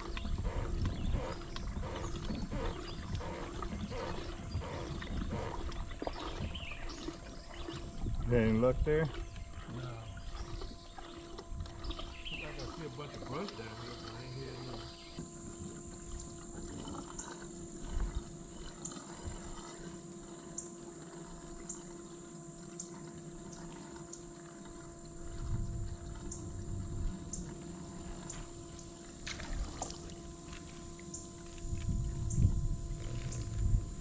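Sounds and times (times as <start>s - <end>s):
water lapping against hull: 0.0s - 34.0s.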